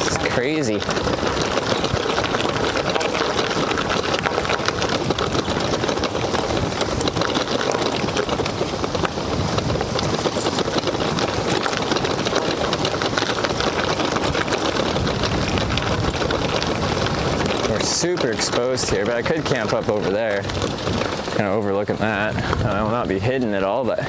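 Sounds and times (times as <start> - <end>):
bicycle rattling and clattering: 0.0 - 24.0
tyres on uneven ground: 0.0 - 24.0.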